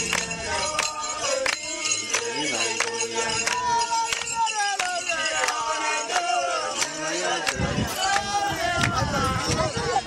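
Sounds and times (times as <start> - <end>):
clinking beat: 0.0 - 10.0.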